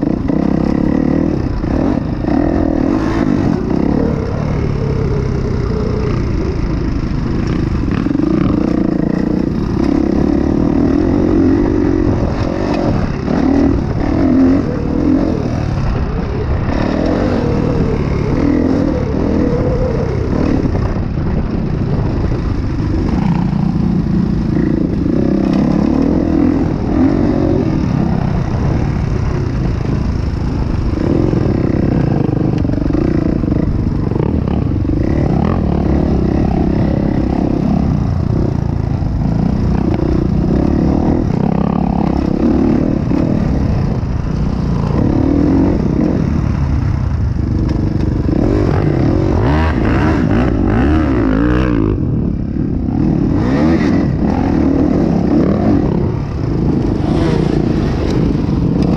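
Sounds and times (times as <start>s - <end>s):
motocross bike engine revving: 0.0s - 58.9s.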